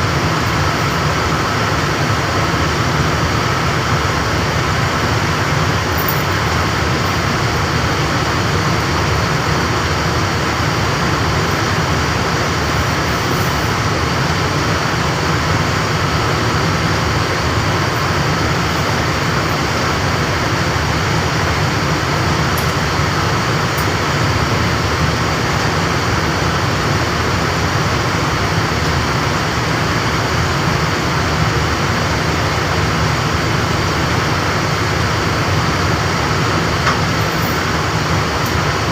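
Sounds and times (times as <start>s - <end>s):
refrigeration equipment running: 0.0s - 38.9s.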